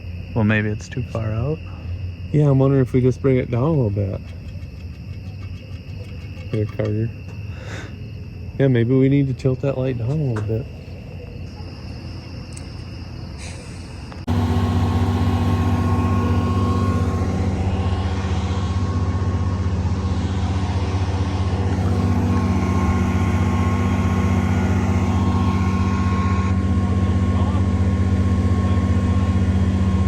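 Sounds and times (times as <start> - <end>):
crickets chirping: 0.0 - 30.0
engine running with deep hum: 0.0 - 30.0.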